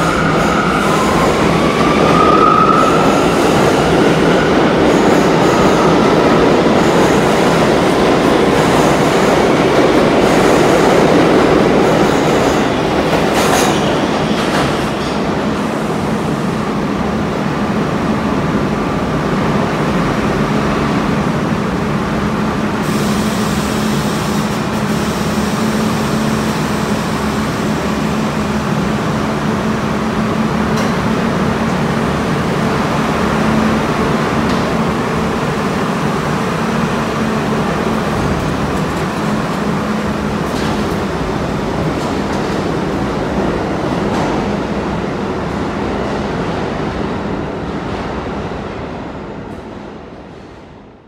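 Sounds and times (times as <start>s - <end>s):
subway train wheels rumbling: 0.0s - 51.0s.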